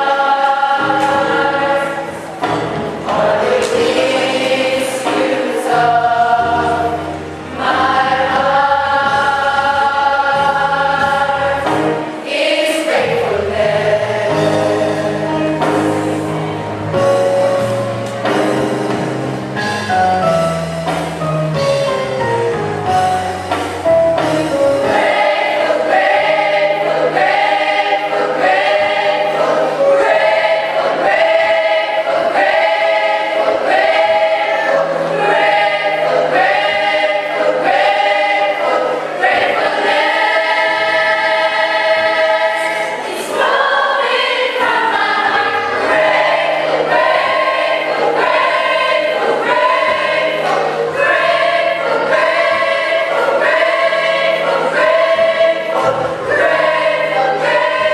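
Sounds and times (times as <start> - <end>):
choir singing gospel song: 0.0 - 57.9.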